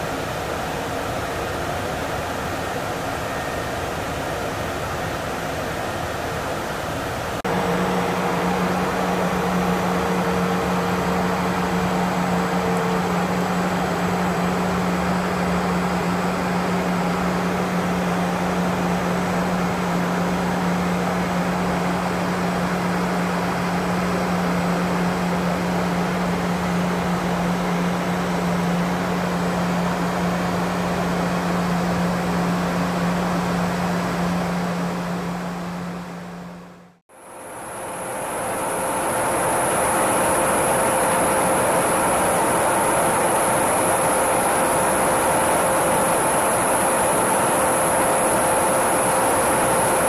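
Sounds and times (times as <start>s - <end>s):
faint high hum: 0.0s - 50.0s
jet aircraft cabin drone: 0.0s - 50.0s.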